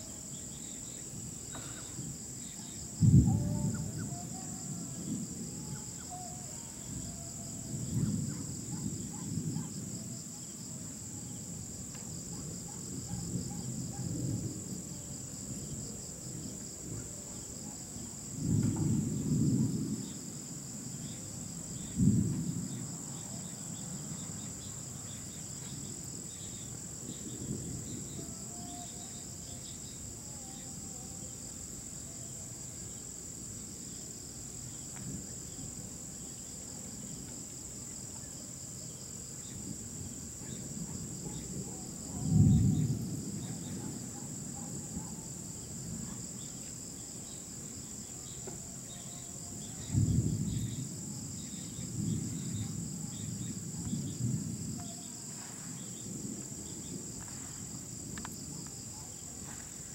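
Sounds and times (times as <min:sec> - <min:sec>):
thunder rumbling: 0:00.0 - 0:32.6, 0:39.2 - 0:48.8, 0:49.4 - 0:59.9
crickets chirping: 0:00.0 - 0:59.9.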